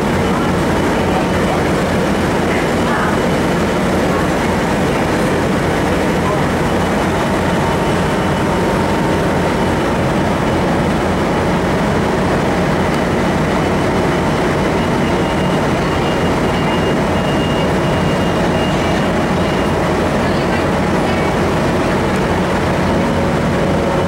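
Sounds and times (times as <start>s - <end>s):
diesel train rumble and hum: 0.0s - 24.0s.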